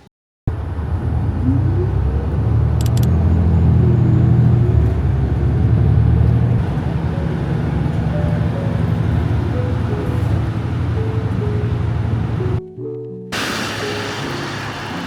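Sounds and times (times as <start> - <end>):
vehicle engine rumbling: 0.5 - 12.6.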